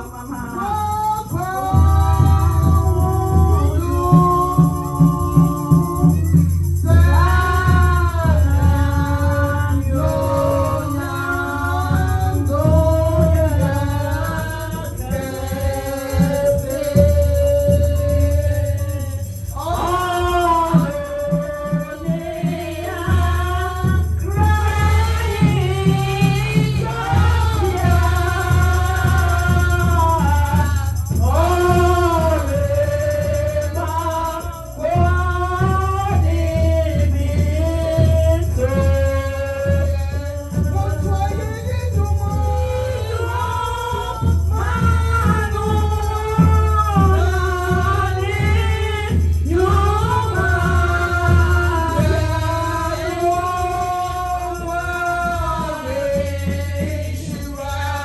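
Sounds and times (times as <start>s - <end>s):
instrumental accompaniment with bass: 0.0s - 58.0s
voices singing: 0.0s - 58.0s.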